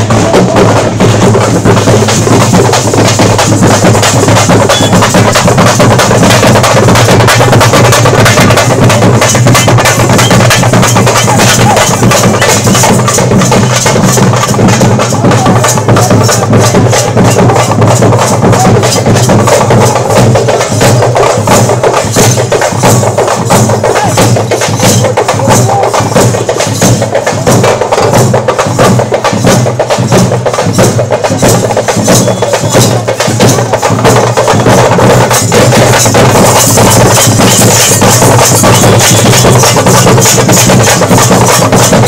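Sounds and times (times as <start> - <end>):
music with fast percussion: 0.0 - 42.0.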